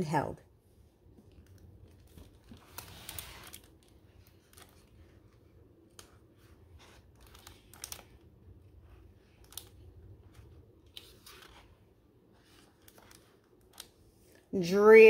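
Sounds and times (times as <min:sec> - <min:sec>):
low steady hum: 0:00.0 - 0:15.0
book pages turning: 0:01.0 - 0:14.4.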